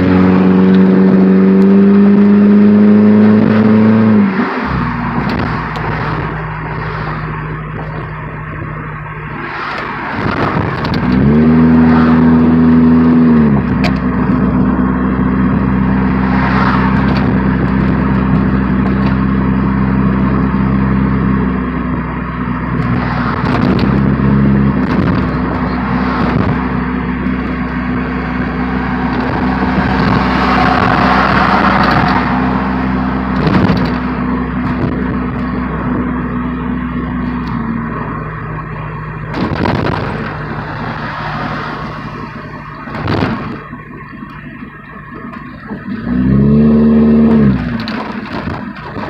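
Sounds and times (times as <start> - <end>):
car engine droning without muffler: 0.0 - 49.0.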